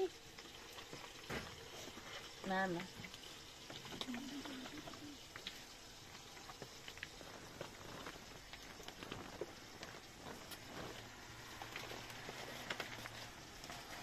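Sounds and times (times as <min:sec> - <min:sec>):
light rain hissing: 0:00.0 - 0:14.0
water drips: 0:00.0 - 0:14.0.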